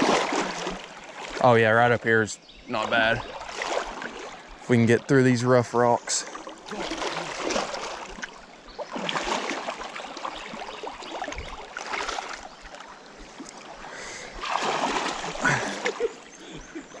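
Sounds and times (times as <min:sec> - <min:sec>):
water sloshing around wading legs: 0:00.0 - 0:01.6, 0:02.7 - 0:05.2, 0:06.1 - 0:17.0
rushing creek current: 0:00.0 - 0:17.0.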